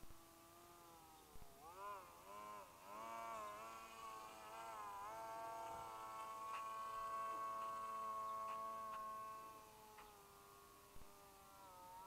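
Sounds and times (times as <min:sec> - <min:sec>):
electric motor propeller whining: 0:00.0 - 0:12.0.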